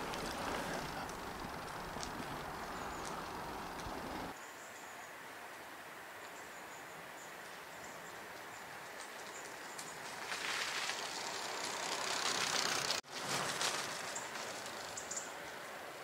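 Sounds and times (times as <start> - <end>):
bicycle tyres rolling on asphalt: 0.0 - 4.4, 7.4 - 16.0.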